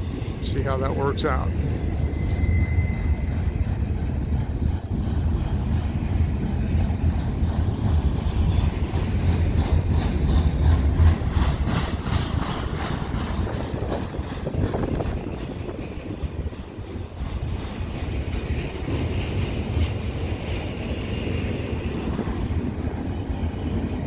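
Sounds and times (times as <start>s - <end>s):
freight train rumbling past: 0.0s - 24.0s
wheels clacking over rails: 0.0s - 24.0s.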